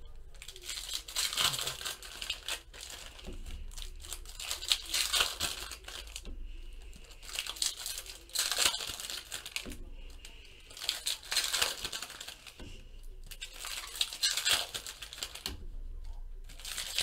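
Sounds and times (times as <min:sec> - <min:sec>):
foil wrappers crinkling: 0:00.0 - 0:15.6, 0:16.4 - 0:17.0.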